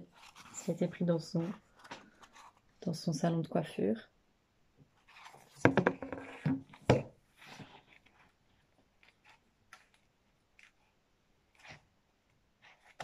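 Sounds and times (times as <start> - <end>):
book rustling: 0.0 - 2.8, 4.9 - 13.0.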